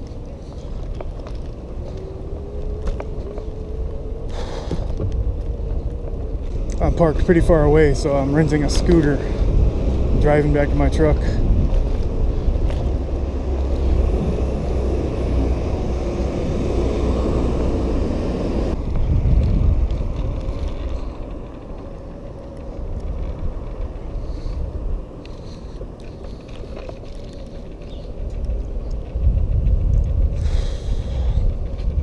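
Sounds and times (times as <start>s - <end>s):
scooter wheels rumbling on pavement: 0.0s - 32.0s
wind on microphone: 0.0s - 32.0s.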